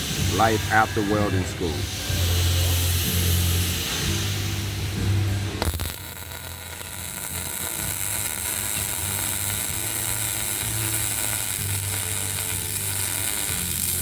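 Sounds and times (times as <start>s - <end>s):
welding arc crackling: 0.0s - 14.0s.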